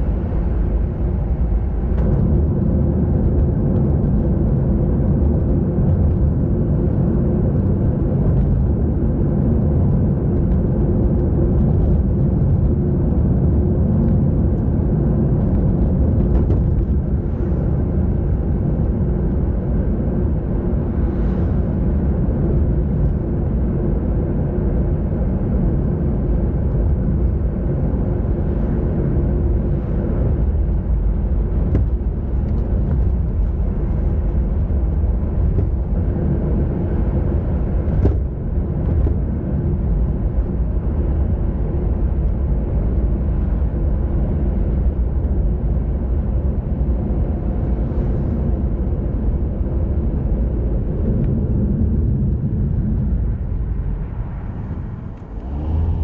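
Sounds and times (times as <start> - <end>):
wind and road rumble: 0.0 - 56.0.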